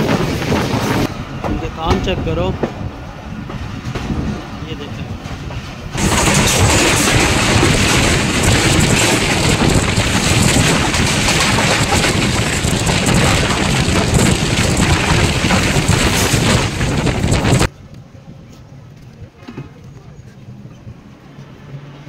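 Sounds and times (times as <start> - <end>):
train rushing at speed: 0.0 - 17.7.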